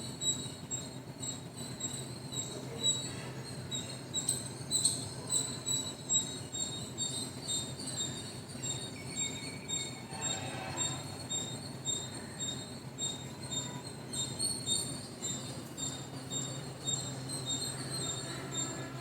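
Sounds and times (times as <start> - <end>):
birds chirping: 1.4 - 19.0.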